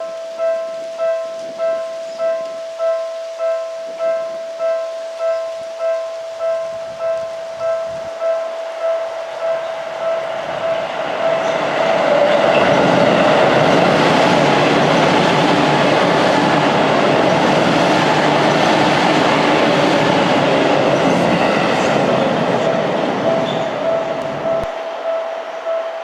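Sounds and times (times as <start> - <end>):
crossing warning bell ringing: 0.0 - 26.0
electric train passing: 0.0 - 26.0.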